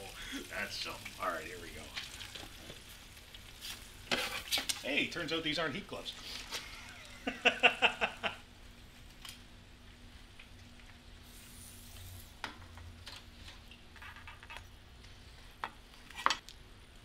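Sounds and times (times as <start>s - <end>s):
chicken sizzling faintly: 0.0s - 13.7s.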